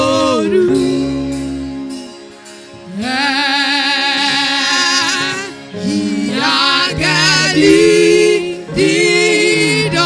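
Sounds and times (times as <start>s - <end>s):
gospel worship singing: 0.0s - 10.0s.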